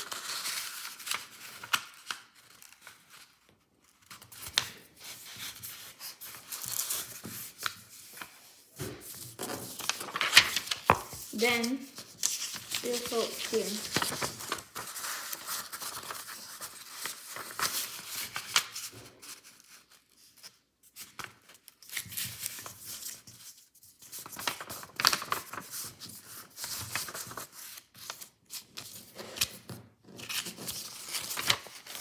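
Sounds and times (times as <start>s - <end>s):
paper being folded and creased: 0.0s - 32.0s.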